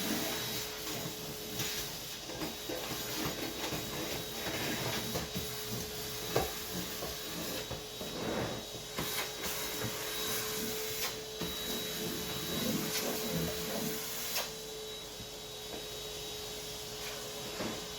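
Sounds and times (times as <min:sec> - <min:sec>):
vacuum cleaner motor whine: 0:00.0 - 0:17.9.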